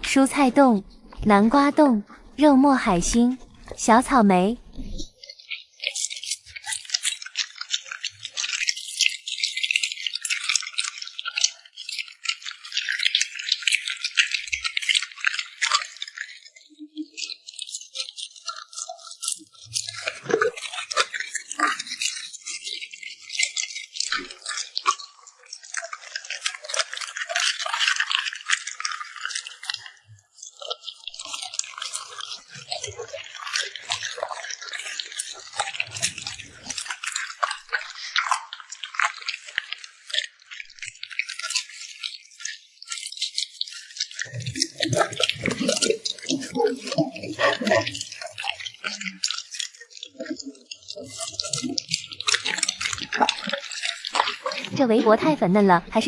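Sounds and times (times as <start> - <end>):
dog crunching food: 3.1 - 3.8, 4.6 - 55.1.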